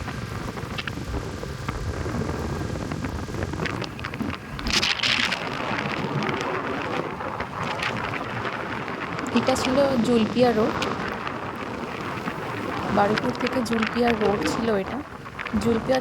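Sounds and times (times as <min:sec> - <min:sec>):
motorbike engine and road rumble: 0:00.0 - 0:16.0
wind buffeting microphone: 0:00.0 - 0:16.0.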